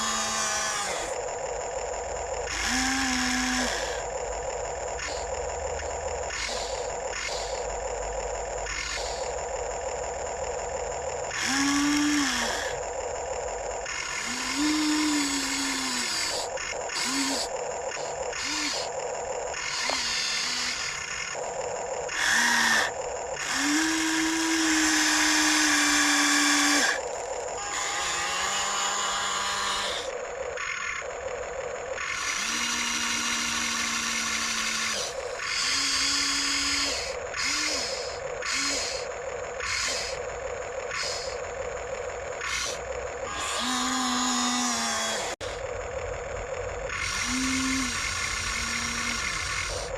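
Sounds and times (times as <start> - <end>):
electric motors whining: 0.0 - 49.9.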